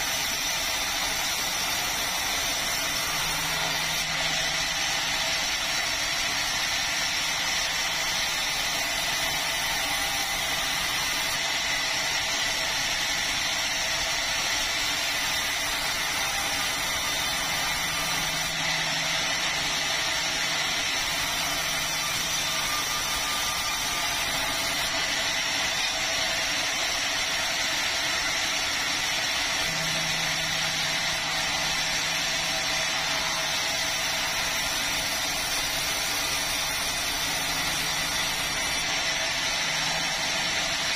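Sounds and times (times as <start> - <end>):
sawmill sawing a log: 0.0 - 40.9.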